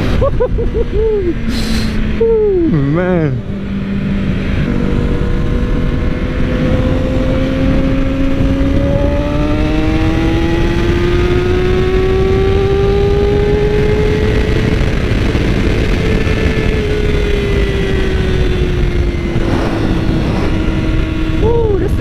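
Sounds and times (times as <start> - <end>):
wind rush: 0.0 - 2.8, 3.5 - 22.0
motorcycle engine accelerating: 0.0 - 22.0.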